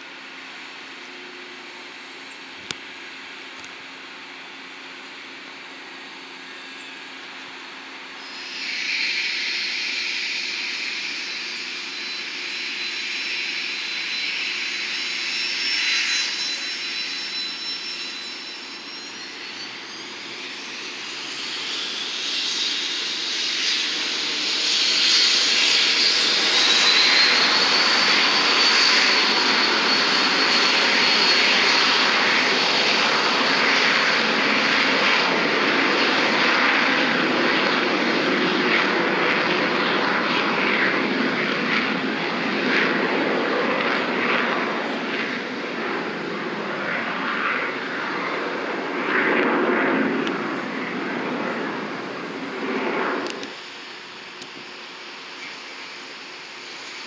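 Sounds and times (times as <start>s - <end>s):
jet engines running: 0.0s - 57.0s
high whine: 6.4s - 57.0s.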